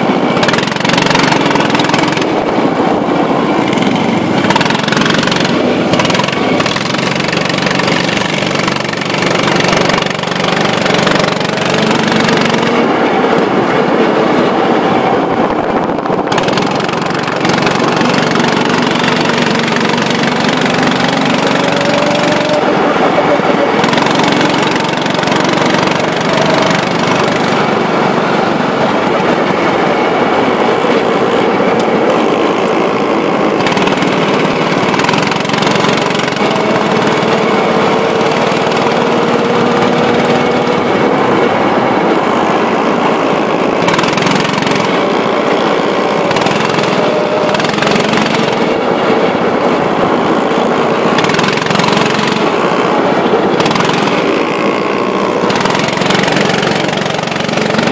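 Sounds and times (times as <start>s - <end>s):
go-kart engines running: 0.0s - 57.9s.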